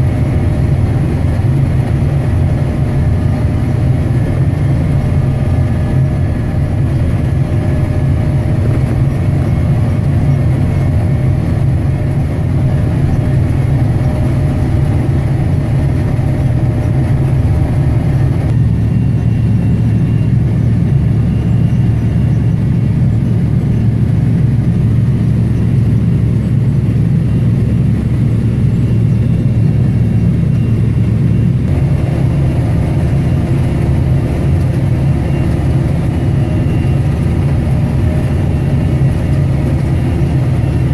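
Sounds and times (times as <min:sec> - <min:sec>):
diesel farm machine droning: 0:00.0 - 0:40.9.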